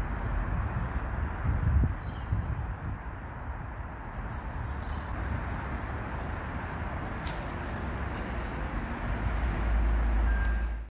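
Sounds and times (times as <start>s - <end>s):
road traffic noise: 0.0s - 10.9s
vehicle low rumble: 0.0s - 10.9s.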